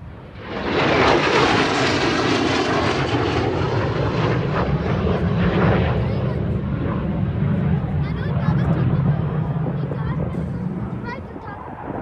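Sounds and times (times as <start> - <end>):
aircraft engine flying past: 0.0 - 12.0.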